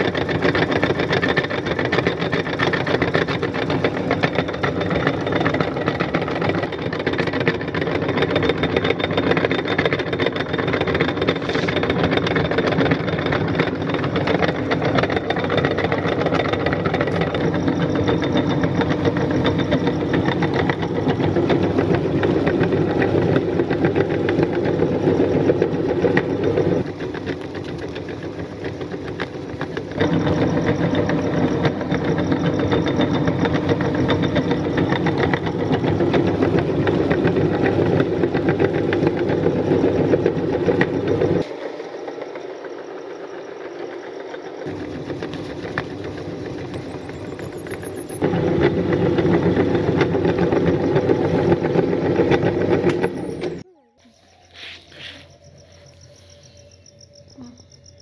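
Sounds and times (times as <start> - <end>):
meat grinder motor running: 0.0 - 42.8, 44.6 - 53.6.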